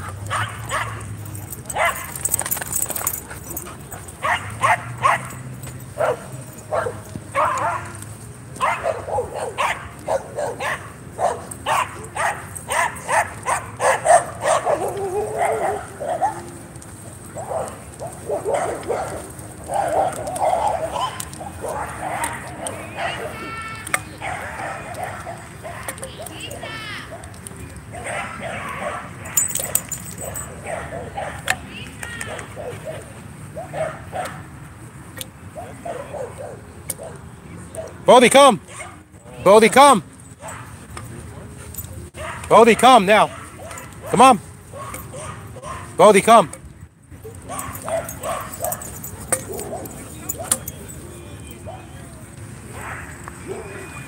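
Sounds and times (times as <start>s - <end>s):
dogs yipping and barking: 0.0s - 34.6s, 35.4s - 38.0s, 38.6s - 39.2s, 40.2s - 40.9s, 41.6s - 46.1s, 47.1s - 54.0s.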